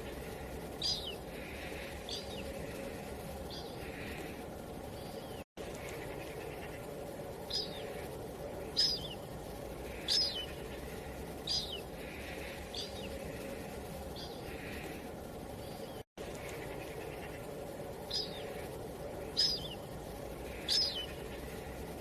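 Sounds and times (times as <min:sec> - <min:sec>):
small bird chirping: 0:00.0 - 0:21.9
low wind noise: 0:00.0 - 0:22.0.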